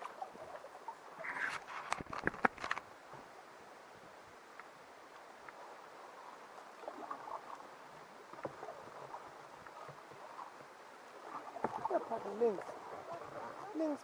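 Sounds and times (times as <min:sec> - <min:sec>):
faint water noise: 0:00.0 - 0:14.0
paddle splashes: 0:00.0 - 0:14.0.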